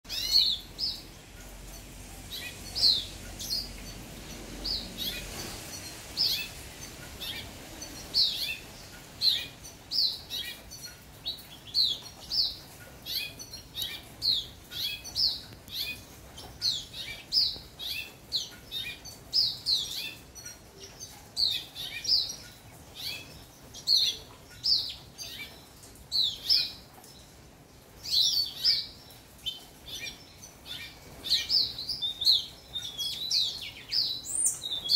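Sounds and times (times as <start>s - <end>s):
finch singing: 0.1s - 27.2s, 28.0s - 34.9s.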